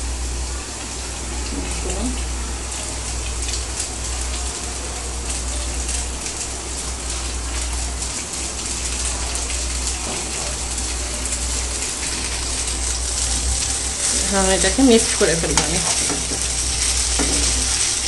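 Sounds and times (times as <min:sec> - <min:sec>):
noodles sizzling in oil: 0:00.0 - 0:18.0.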